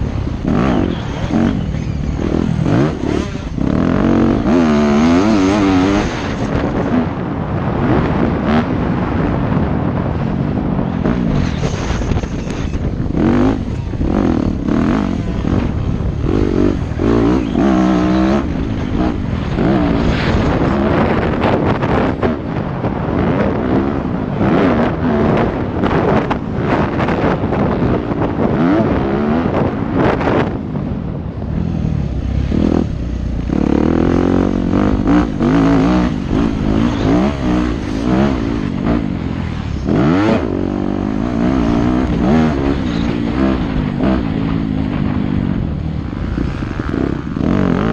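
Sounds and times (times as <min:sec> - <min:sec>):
motocross bike engine revving: 0:00.0 - 0:09.6, 0:10.7 - 0:30.8, 0:31.4 - 0:47.9
wind buffeting microphone: 0:00.0 - 0:47.9.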